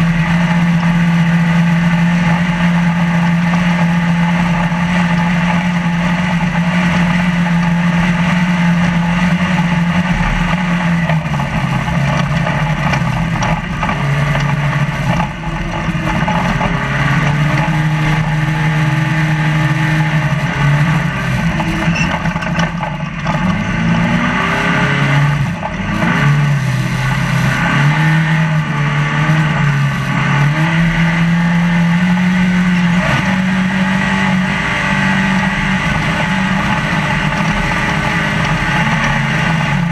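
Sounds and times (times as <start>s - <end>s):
rattle and wind rush: 0.0s - 39.9s
truck engine running hard: 0.0s - 39.9s.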